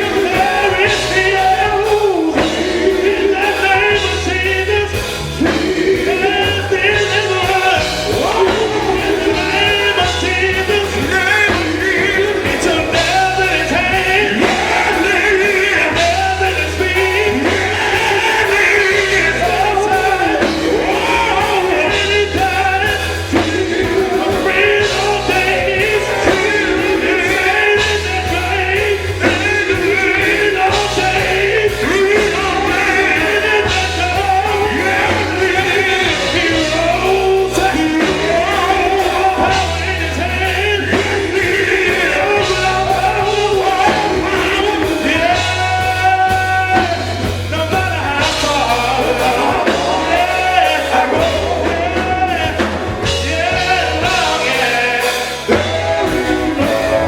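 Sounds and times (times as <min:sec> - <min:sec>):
band playing: 0:00.0 - 0:57.0
gospel group singing: 0:00.0 - 0:57.0.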